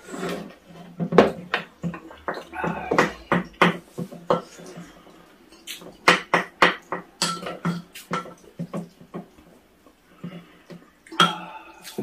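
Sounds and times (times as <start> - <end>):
cutlery clinking on dishes: 0.0 - 9.4, 11.1 - 12.0.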